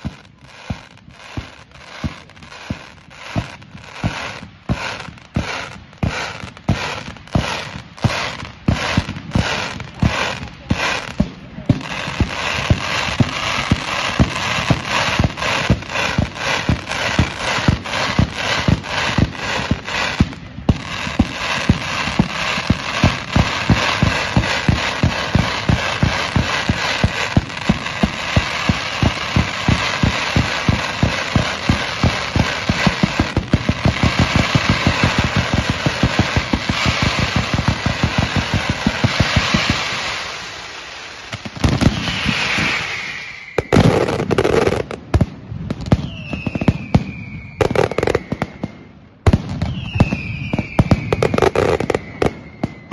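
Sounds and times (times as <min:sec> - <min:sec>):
falling firework whistles: 0:00.0 - 0:11.2, 0:11.8 - 0:44.9, 0:45.6 - 0:52.9
firecrackers banging: 0:00.0 - 0:48.7
firework crackling: 0:00.0 - 0:52.9.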